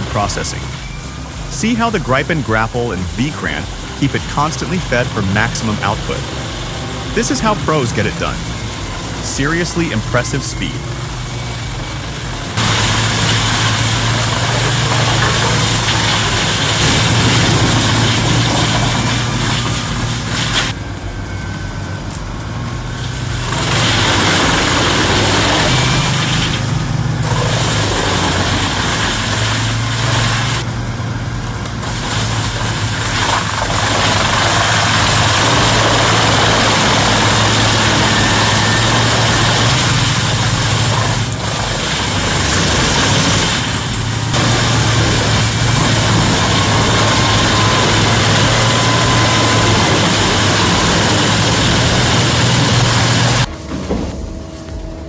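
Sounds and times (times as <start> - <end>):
low engine hum: 0.0 - 55.0
wood chipper chipping wood: 0.0 - 55.0.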